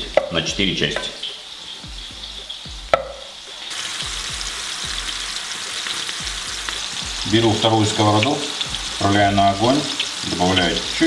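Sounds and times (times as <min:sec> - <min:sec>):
meatballs sizzling in frying pan: 0:00.0 - 0:11.0.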